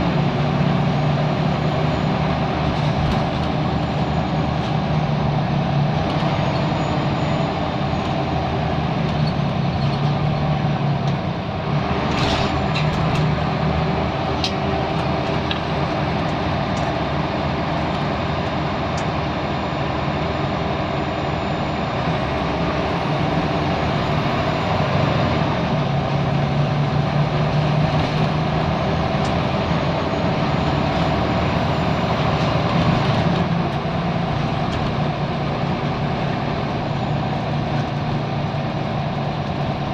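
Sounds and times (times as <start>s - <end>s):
diesel bus engine running: 0.0s - 39.9s.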